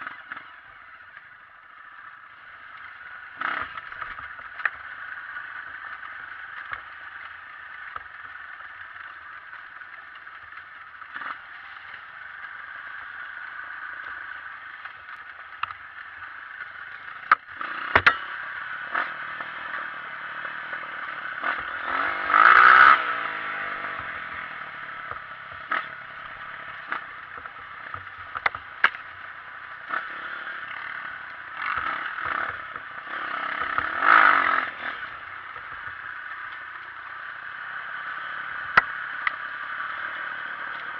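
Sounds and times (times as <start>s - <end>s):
dirt bike engine revving: 1.8s - 7.6s, 11.1s - 14.8s, 15.9s - 40.9s.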